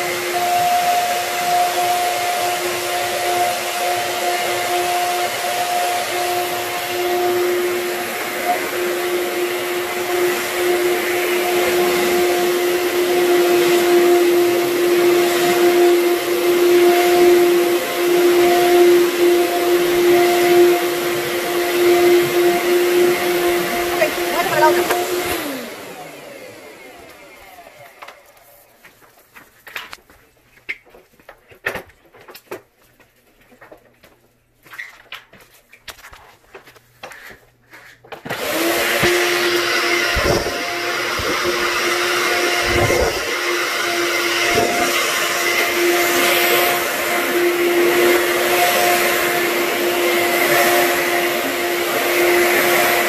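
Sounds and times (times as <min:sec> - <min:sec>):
vacuum motor winding down: 0:00.0 - 0:28.3, 0:38.3 - 0:53.0
vacuum cleaner running: 0:00.0 - 0:29.4, 0:37.1 - 0:53.0.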